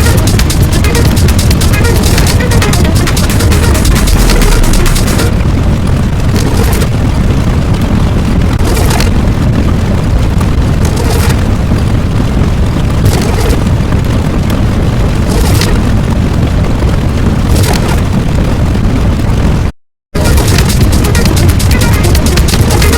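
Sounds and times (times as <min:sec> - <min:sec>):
explosions booming rumble: 0:00.0 - 0:22.9
sharp explosion bursts: 0:00.0 - 0:22.9.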